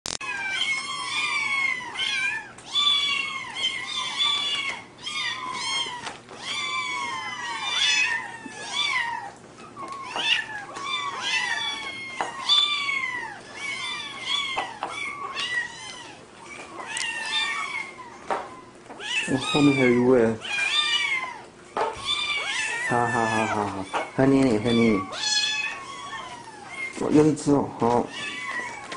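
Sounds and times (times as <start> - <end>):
kittens mewing: 0.1 - 28.9.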